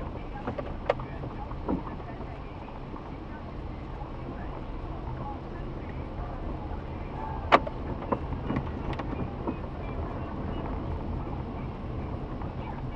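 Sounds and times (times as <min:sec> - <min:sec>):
car engine rumbling: 0:00.0 - 0:12.9.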